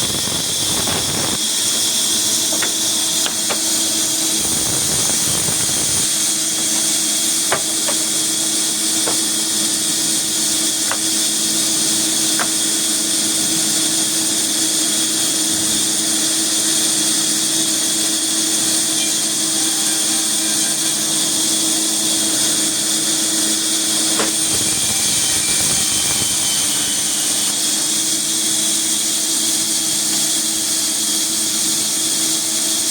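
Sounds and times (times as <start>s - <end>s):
sawmill machinery running: 0.0s - 32.9s.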